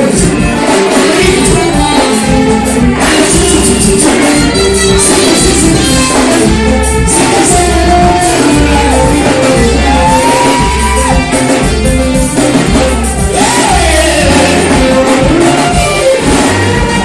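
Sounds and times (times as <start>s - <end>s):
band with pulsing bass: 0.0s - 17.0s
person singing long notes: 0.0s - 17.0s.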